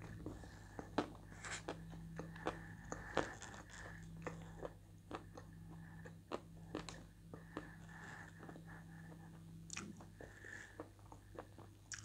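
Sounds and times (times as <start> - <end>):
faint steady hum: 0.0 - 12.0
person chewing paste: 0.0 - 12.0.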